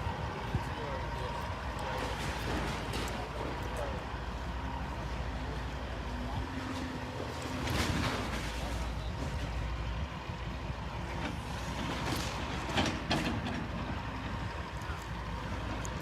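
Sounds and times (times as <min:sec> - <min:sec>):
excavator engine rumble: 0:00.0 - 0:16.0.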